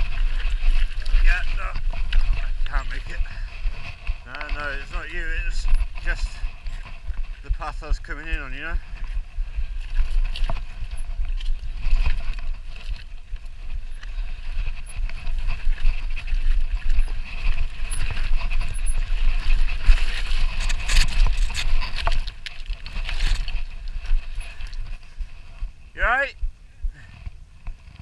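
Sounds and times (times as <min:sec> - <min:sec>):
tyres crunching over stones: 0:00.0 - 0:25.6
mountain bike rattling: 0:00.0 - 0:26.2, 0:26.9 - 0:28.0
wind buffeting microphone: 0:00.0 - 0:28.0.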